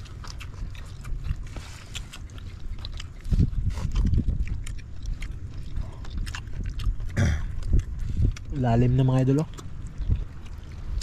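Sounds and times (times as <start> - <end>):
close chewing and mouth noises: 0.0 - 11.0.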